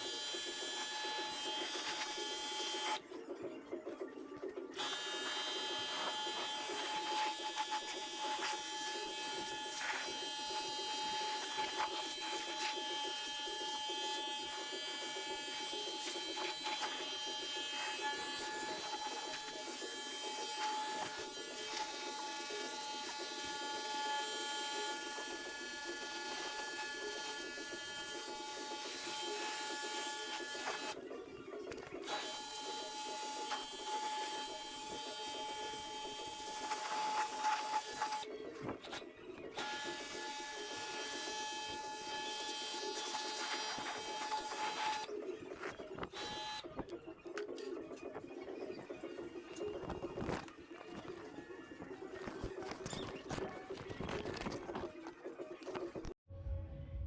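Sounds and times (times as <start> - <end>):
whirring hum with high tone: 0.0 - 57.0.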